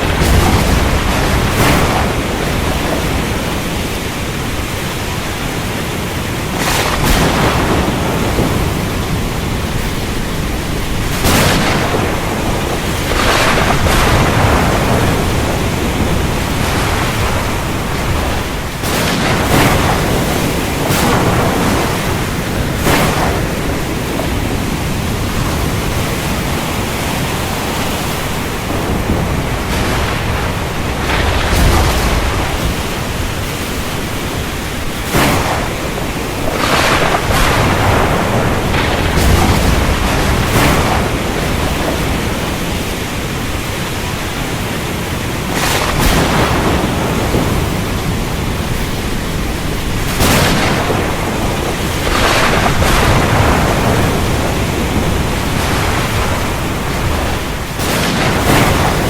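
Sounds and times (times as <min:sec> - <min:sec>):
heavy rain downpour: 0:00.0 - 0:59.0
thunder cracking: 0:00.0 - 0:59.0.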